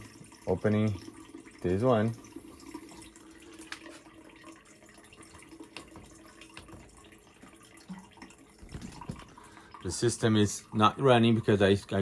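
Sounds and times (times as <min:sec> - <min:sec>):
water running through pipes: 0:00.0 - 0:12.0.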